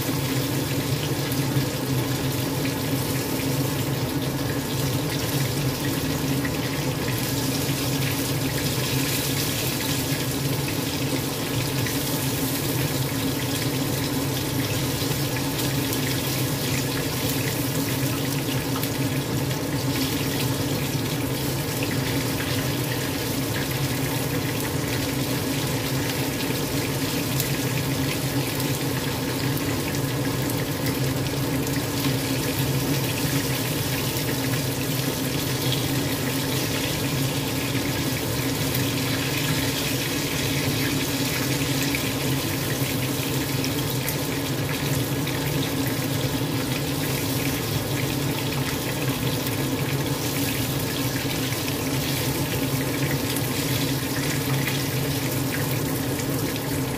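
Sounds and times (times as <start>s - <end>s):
chicken sizzling in hot oil: 0.0s - 56.9s.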